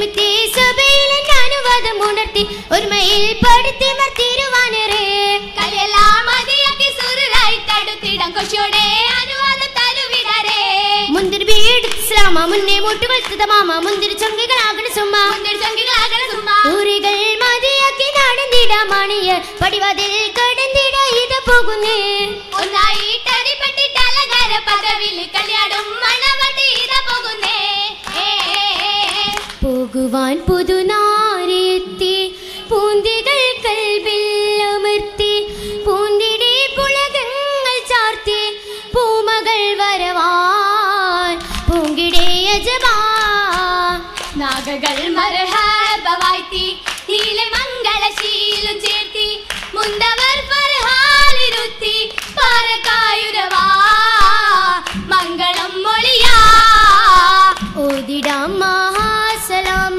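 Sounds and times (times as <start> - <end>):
rhythmic hand-clapping: 0.0 - 29.8, 41.1 - 59.9
girls singing in unison: 0.0 - 59.9.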